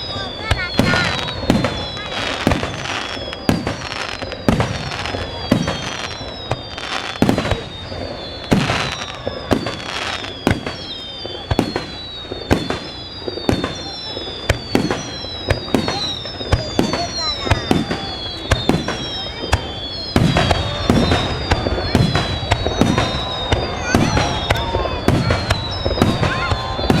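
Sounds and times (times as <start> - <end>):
fireworks bangs: 0.0 - 27.0
fireworks whistles falling in pitch: 0.0 - 27.0.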